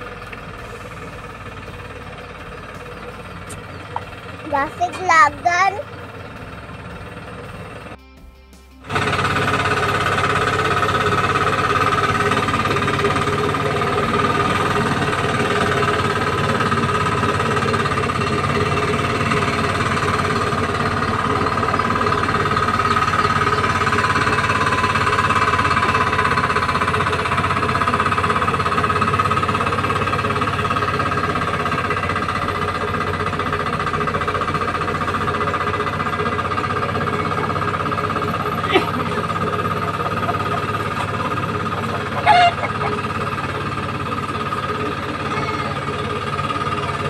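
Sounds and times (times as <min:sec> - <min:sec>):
hand tractor engine chugging: 0:00.0 - 0:08.0, 0:08.8 - 0:47.0.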